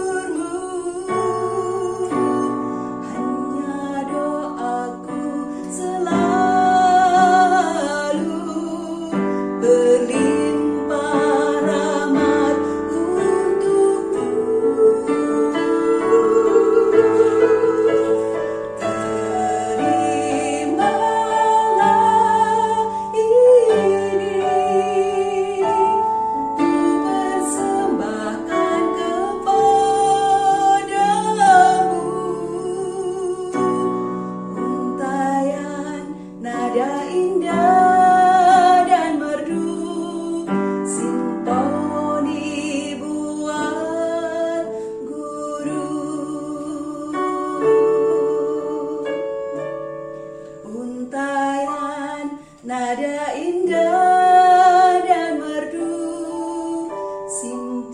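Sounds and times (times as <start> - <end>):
woman singing slow song: 0.0 - 49.8, 50.4 - 57.9
piano accompaniment: 0.0 - 57.9.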